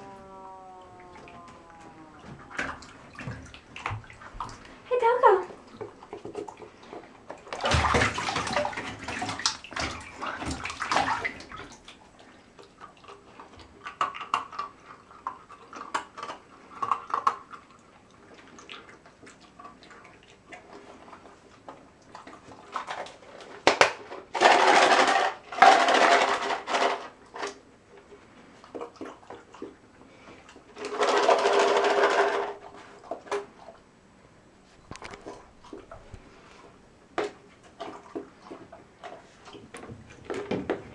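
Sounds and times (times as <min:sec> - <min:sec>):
bathtub water sloshing and splashing: 0:00.0 - 0:33.9, 0:34.7 - 0:40.9.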